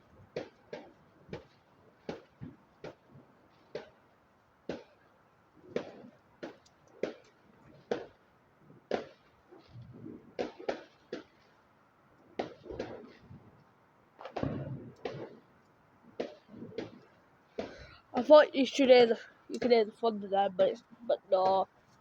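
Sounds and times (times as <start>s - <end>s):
distant fireworks bangs and pops: 0.0s - 17.9s.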